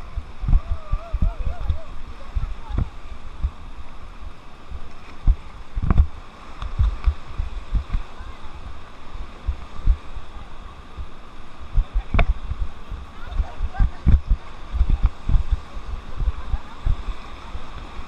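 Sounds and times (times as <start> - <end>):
river water rushing: 0.0 - 18.0
wind buffeting microphone: 0.0 - 18.0.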